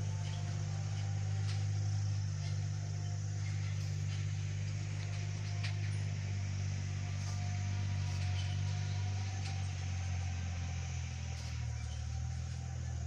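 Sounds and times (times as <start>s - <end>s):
low engine-like drone: 0.0s - 13.0s.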